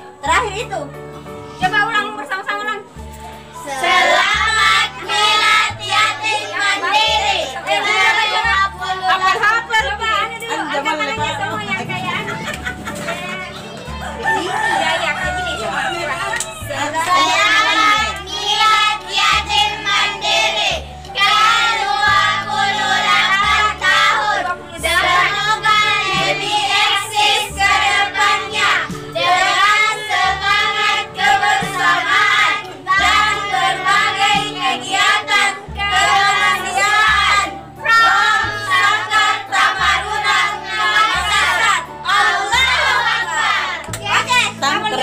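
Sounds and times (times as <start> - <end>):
instrumental music: 0.0 - 45.0
children and women singing: 3.6 - 45.0.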